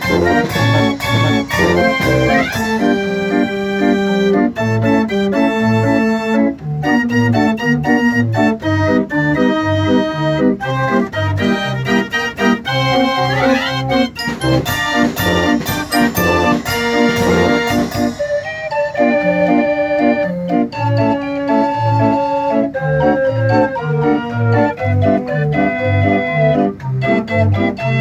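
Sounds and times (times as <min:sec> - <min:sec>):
fairground organ tune: 0:00.0 - 0:28.0.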